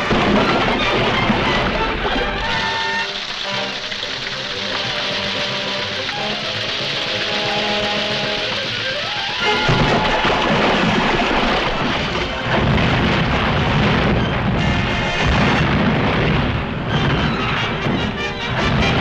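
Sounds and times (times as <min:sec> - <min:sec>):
cartoon action score: 0:00.0 - 0:15.6
crashing and rumbling effects: 0:00.0 - 0:19.0.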